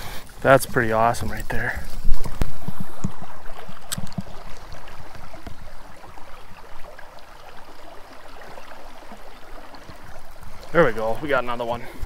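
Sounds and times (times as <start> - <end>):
stream water rippling: 0.0 - 12.0.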